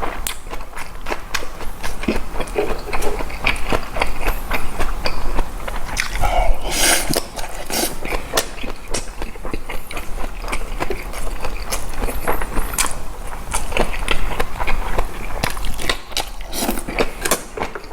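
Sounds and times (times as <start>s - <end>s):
person chewing crunchy food: 0.0s - 17.9s.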